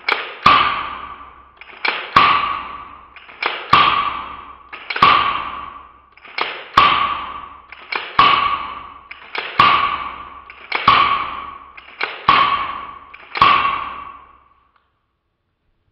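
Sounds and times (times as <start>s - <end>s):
airsoft revolver shots: 0.0s - 14.5s.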